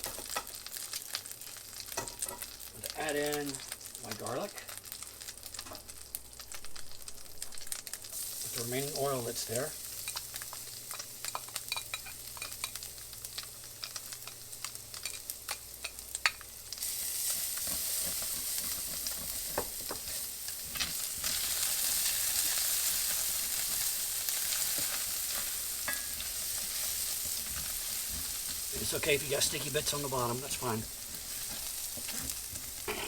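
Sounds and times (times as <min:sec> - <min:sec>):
garlic sizzling in oil: 0:00.0 - 0:33.0.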